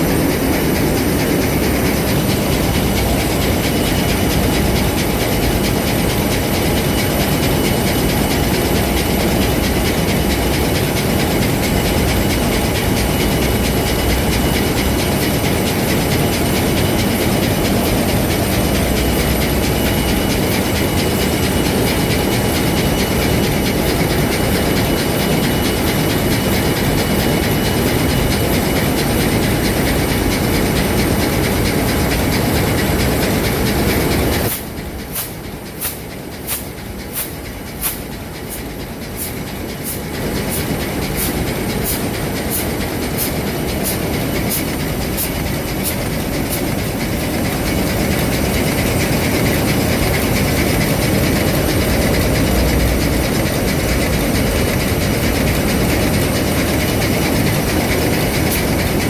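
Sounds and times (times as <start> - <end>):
diesel engine clatter: 0.0 - 59.0
steady high whine: 0.0 - 59.0.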